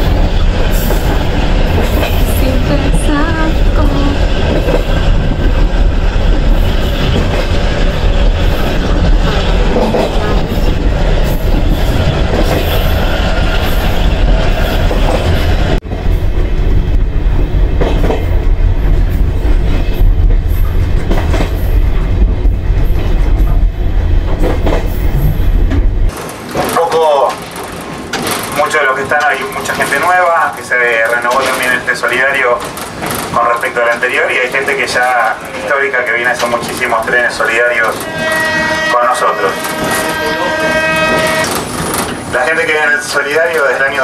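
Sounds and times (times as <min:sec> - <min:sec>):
train rumbling on track: 0:00.0 - 0:44.0.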